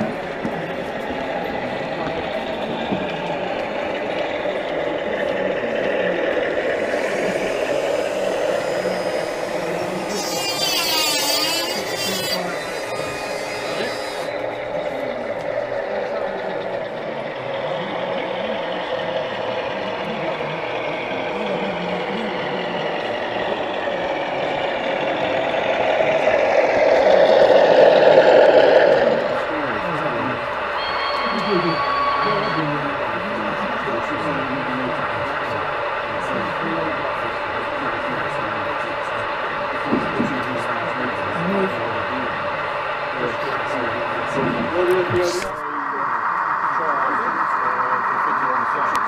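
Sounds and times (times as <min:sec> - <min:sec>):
model train running on track: 0:00.0 - 0:49.0.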